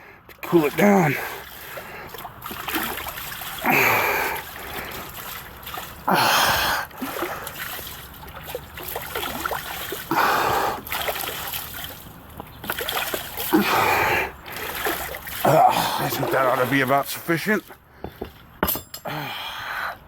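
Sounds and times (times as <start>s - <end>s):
water splashing: 0.3s - 17.8s
water trickling from hose: 0.3s - 17.8s.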